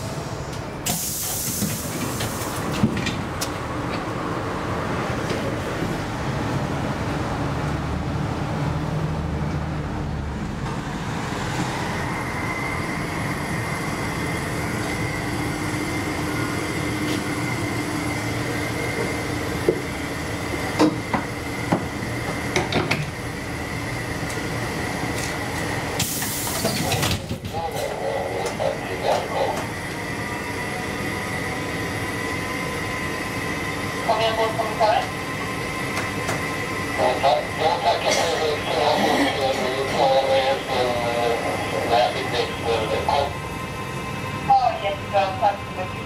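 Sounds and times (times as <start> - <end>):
tram rumbling: 0.0 - 46.0.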